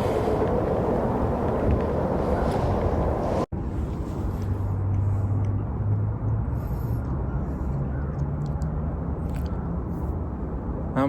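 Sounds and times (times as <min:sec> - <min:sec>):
low engine hum: 0:00.0 - 0:10.8.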